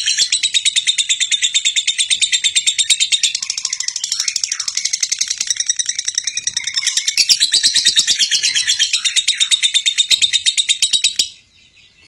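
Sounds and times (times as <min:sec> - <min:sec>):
lovebird chattering trill: 0:00.0 - 0:11.4.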